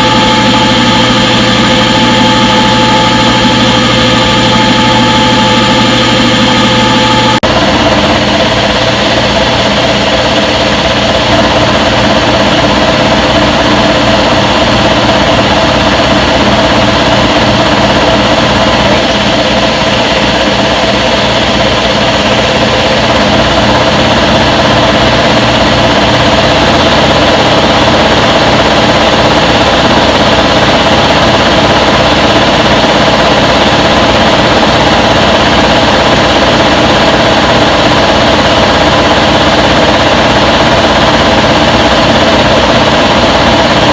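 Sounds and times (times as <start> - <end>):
washing machine spinning: 0.0 - 43.9.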